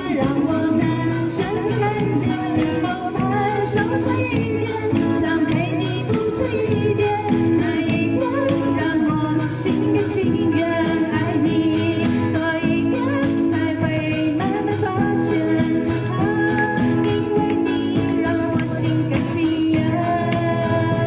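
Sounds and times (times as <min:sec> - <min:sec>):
pop song with singing: 0:00.0 - 0:21.0.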